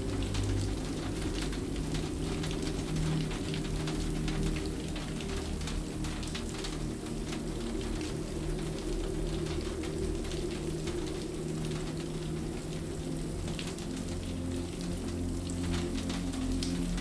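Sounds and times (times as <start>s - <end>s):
rain on a hard surface: 0.0s - 17.0s.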